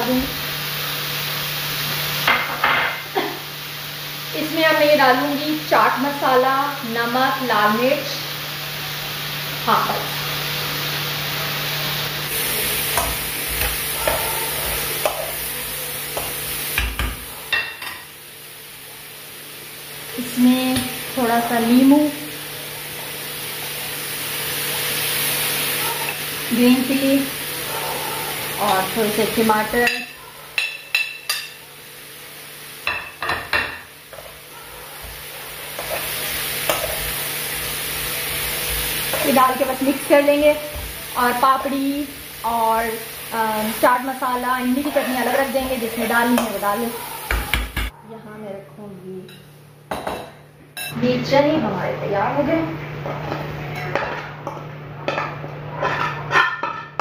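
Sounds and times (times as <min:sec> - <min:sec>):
food sizzling in a frying pan: 0:00.0 - 0:48.0, 0:49.1 - 0:57.0.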